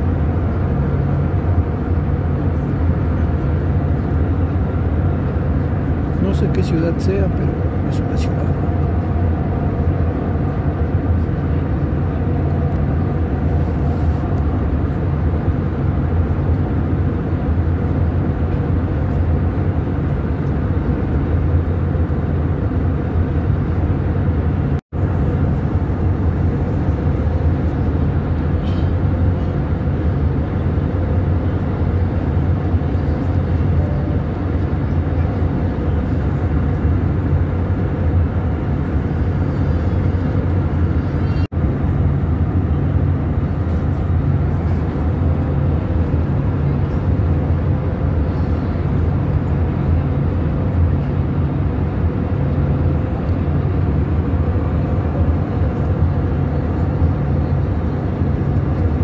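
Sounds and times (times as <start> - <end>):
aircraft cabin drone: 0.0 - 59.0.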